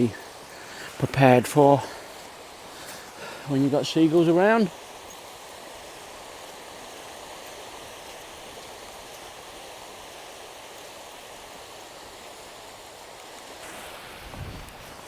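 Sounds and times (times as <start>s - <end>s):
surf rushing on sand: 0.0s - 15.0s.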